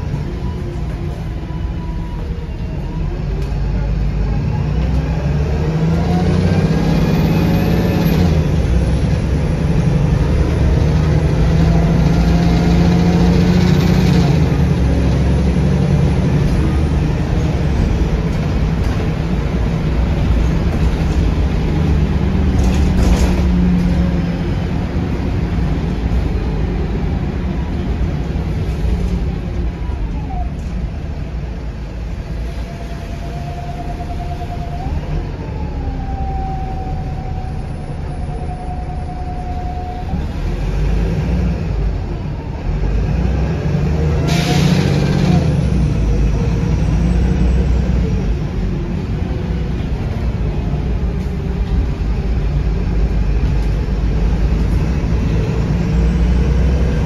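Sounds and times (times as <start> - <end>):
bus diesel engine droning: 0.0 - 57.0
engine whine: 0.0 - 57.0.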